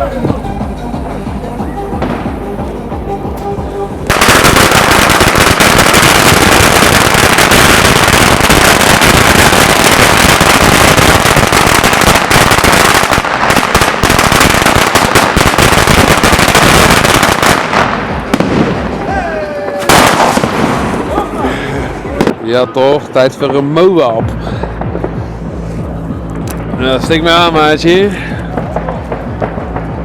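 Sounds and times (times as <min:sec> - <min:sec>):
firecracker string crackling: 0:00.0 - 0:22.7, 0:24.2 - 0:30.0.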